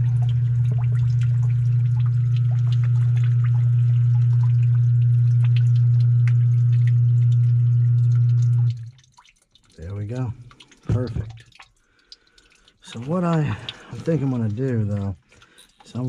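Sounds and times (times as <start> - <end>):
pump motor humming: 0.0 - 16.0
water dripping and splashing: 0.0 - 16.0.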